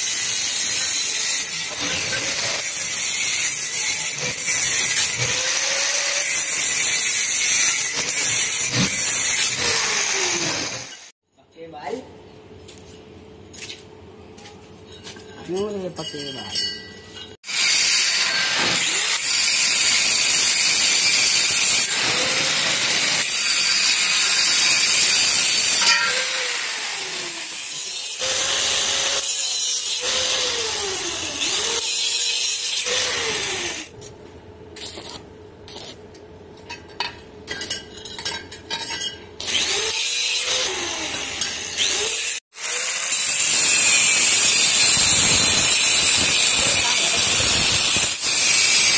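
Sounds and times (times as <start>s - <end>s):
angle grinder grinding metal: 0.0s - 11.1s, 15.5s - 34.0s, 38.7s - 48.9s.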